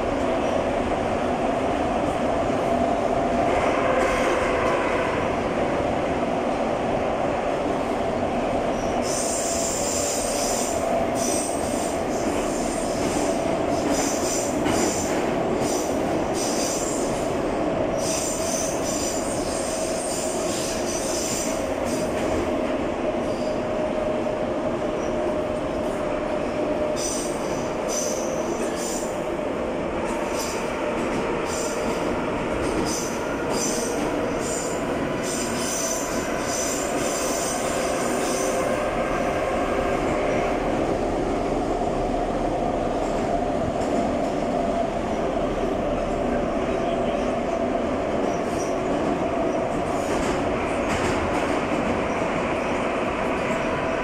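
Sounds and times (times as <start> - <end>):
metro train running rumble: 0.0 - 54.0.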